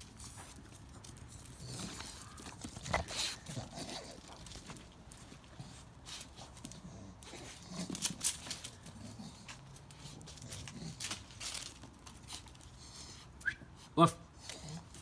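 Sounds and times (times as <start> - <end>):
dogs scuffling: 0.0 - 12.9.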